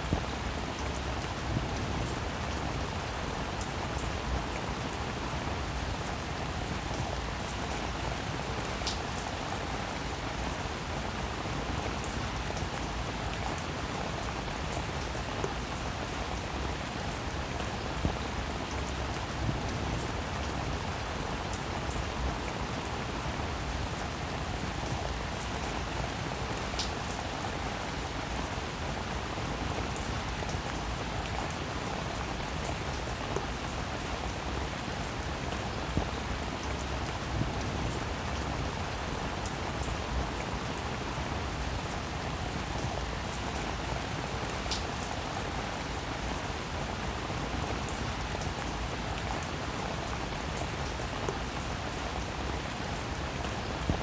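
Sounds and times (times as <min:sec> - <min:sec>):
rain pattering on a surface: 0:00.0 - 0:54.0.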